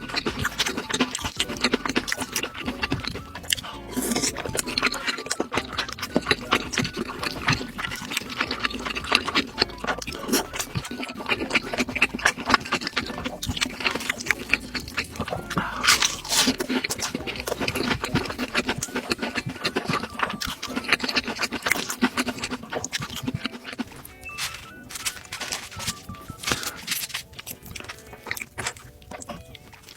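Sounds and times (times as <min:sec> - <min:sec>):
mouth clicks and smacks: 0:00.0 - 0:29.9
person chewing food: 0:00.0 - 0:29.9.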